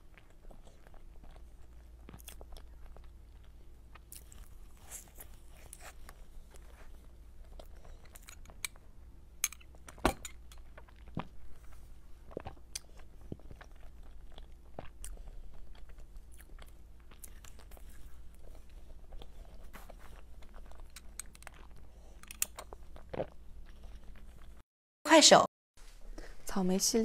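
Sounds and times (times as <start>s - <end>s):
chewing and biting soft cake: 0.0s - 24.6s.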